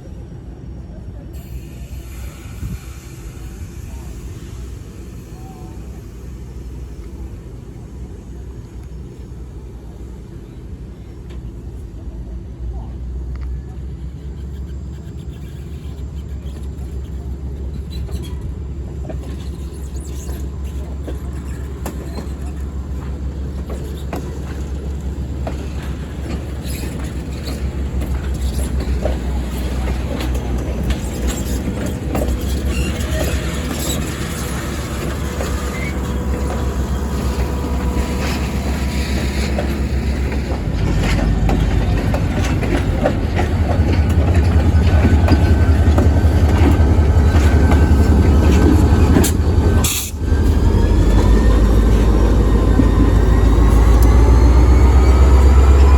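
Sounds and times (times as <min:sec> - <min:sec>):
train rumbling on rails: 0:00.0 - 0:55.9.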